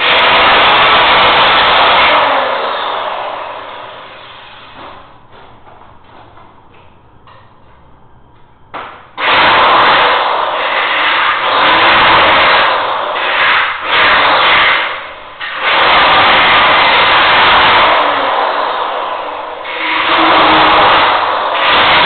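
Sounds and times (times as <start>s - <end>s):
power tool running loudly: 0.0s - 7.8s, 8.7s - 22.0s.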